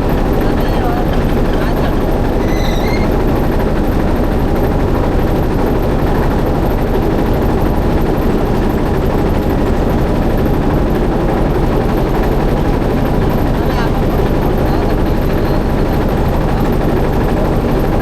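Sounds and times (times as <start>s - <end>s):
motorboat engine chugging: 0.0s - 18.0s.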